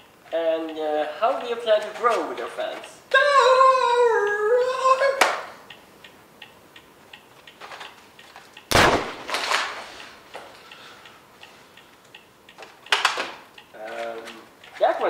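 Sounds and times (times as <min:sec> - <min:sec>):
faint ticking: 0:00.0 - 0:08.7, 0:09.9 - 0:15.0.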